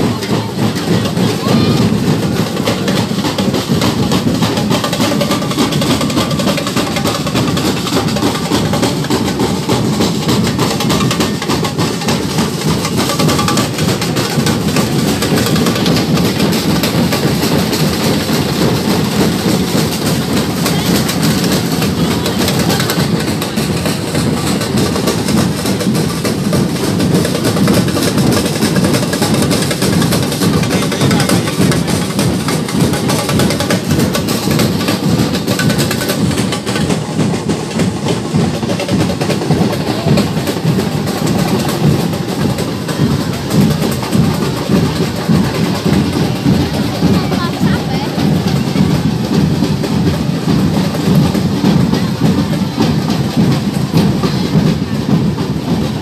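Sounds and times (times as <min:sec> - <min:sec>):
samba percussion drumming: 0:00.0 - 0:56.0.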